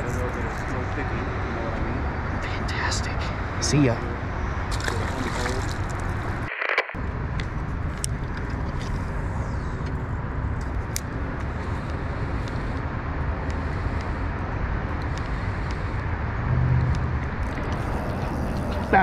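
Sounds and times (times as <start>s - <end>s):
road traffic roar: 0.0s - 19.0s.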